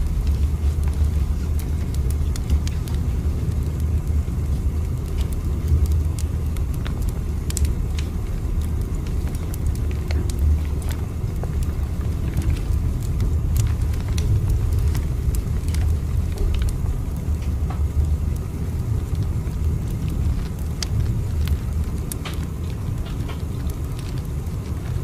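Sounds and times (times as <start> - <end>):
sharp crackling clicks: 0.0 - 25.0
train rumbling in motion: 0.0 - 25.0.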